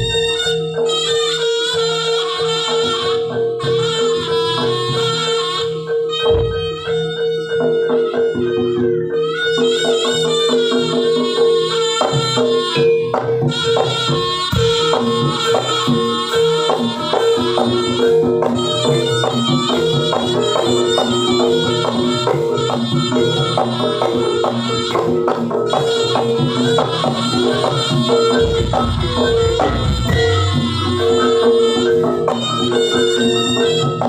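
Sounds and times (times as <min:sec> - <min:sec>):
gamelan-style struck percussion: 0:00.0 - 0:34.0
wavering reed-wind melody: 0:00.0 - 0:34.0
held drone note: 0:01.8 - 0:34.0.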